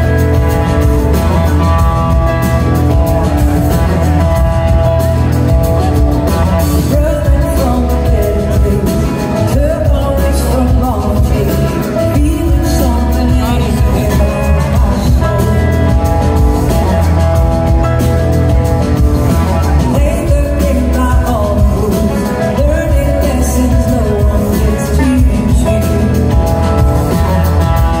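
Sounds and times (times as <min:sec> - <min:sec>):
bass guitar: 0:00.0 - 0:28.0
drums: 0:00.0 - 0:28.0
electric guitars: 0:00.0 - 0:28.0
person singing: 0:00.0 - 0:28.0.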